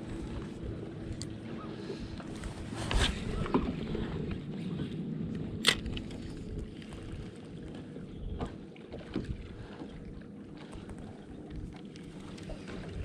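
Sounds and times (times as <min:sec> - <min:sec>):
wind buffeting microphone: 0:00.0 - 0:10.2, 0:10.8 - 0:13.0
low boat engine rumble: 0:00.0 - 0:13.0.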